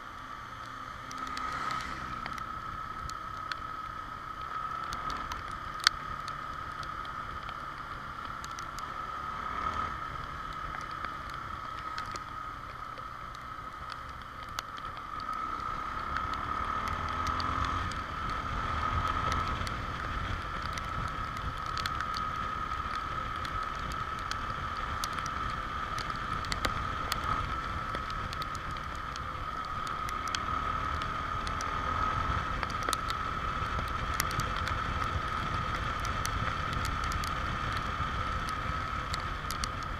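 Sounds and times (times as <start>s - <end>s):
motorcycle engine rumble: 0.0s - 39.9s
raindrop ticks: 0.1s - 39.9s.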